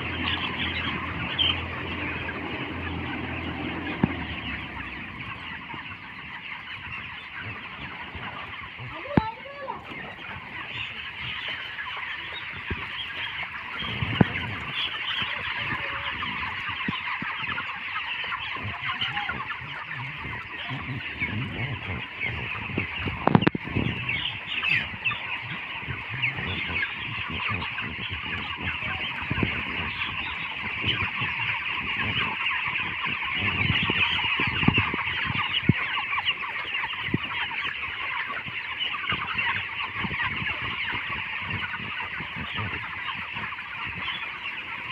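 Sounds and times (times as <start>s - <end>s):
chickens peeping and clucking: 0.0s - 44.9s.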